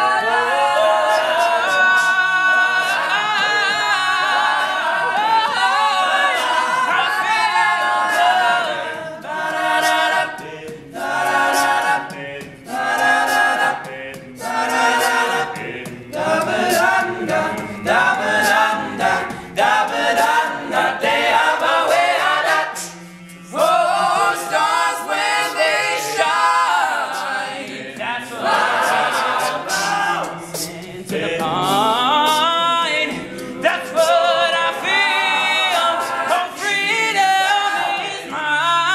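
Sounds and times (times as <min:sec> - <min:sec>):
male a cappella group singing: 0:00.0 - 0:38.9.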